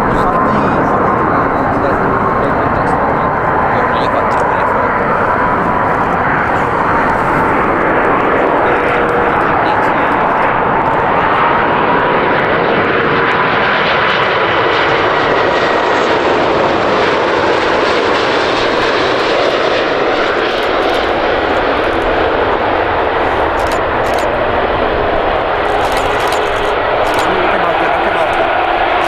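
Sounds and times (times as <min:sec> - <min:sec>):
jet airliner engines rushing: 0:00.0 - 0:29.0.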